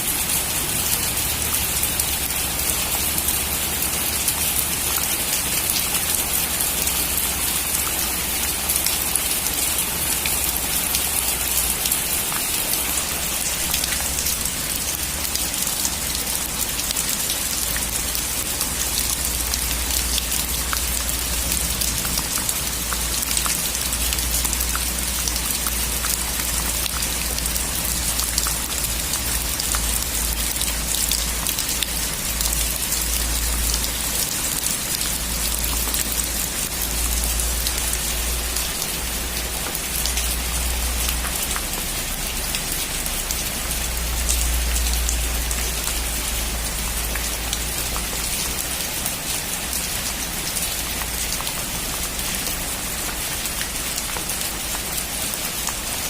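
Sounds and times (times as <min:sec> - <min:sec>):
heavy rain on a metal roof: 0:00.0 - 0:56.0
raindrops ticking: 0:00.0 - 0:56.0.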